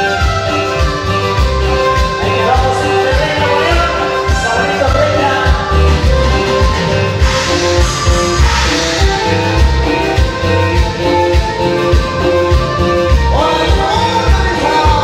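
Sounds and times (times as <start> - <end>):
live band electronic keyboards: 0.0 - 15.0.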